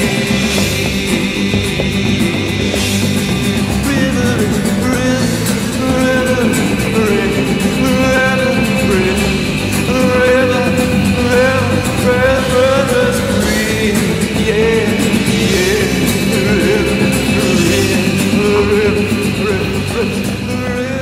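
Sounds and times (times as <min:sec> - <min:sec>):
rock song with singing: 0:00.0 - 0:21.0.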